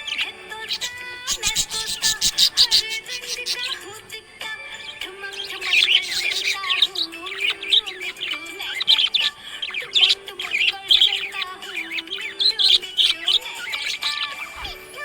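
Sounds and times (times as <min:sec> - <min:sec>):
budgerigar chirping and warbling: 0:00.0 - 0:04.0, 0:04.7 - 0:15.0
slow background tune: 0:00.0 - 0:15.0.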